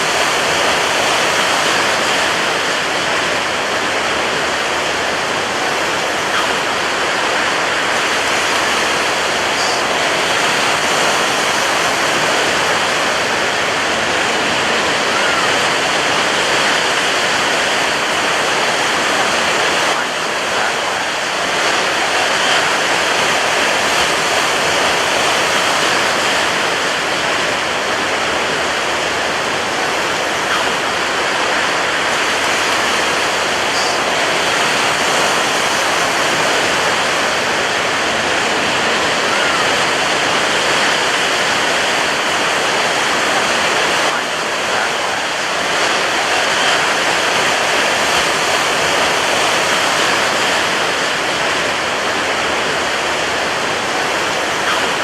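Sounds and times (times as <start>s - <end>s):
surf breaking on a beach: 0.0s - 55.0s.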